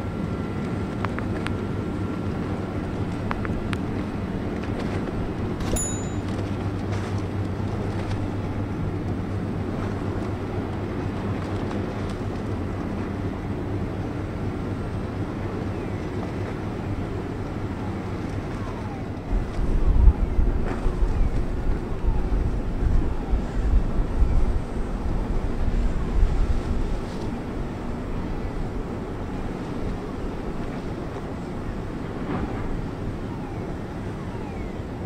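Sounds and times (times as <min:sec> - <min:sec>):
ship engine droning: 0:00.0 - 0:35.0
wind buffeting microphone: 0:06.4 - 0:35.0.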